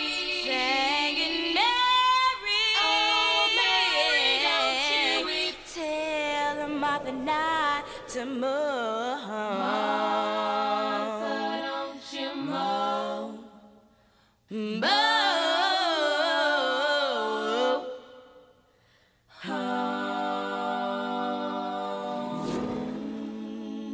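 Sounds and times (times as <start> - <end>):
a cappella singing: 0.0 - 18.7, 19.3 - 23.9.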